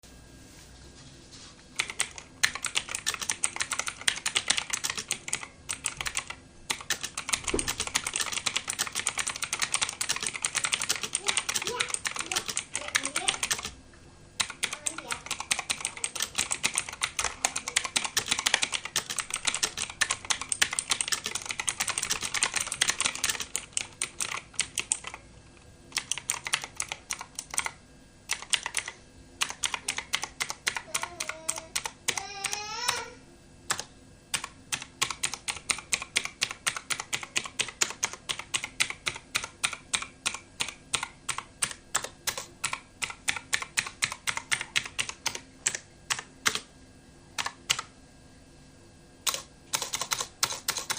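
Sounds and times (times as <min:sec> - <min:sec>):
mechanical keyboard typing: 0:01.8 - 0:13.8, 0:14.4 - 0:25.2, 0:25.9 - 0:33.0, 0:33.7 - 0:46.7, 0:47.4 - 0:47.9, 0:49.2 - 0:50.9.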